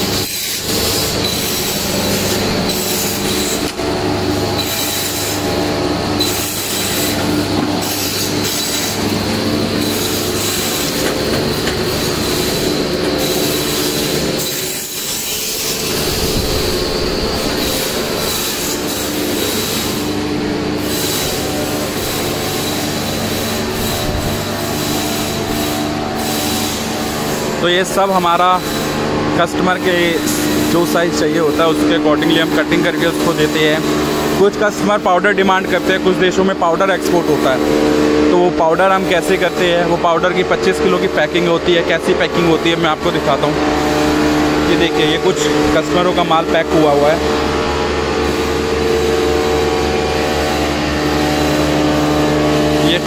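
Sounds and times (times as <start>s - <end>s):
cutting machine humming: 0.0s - 53.0s
high whine: 0.0s - 53.0s.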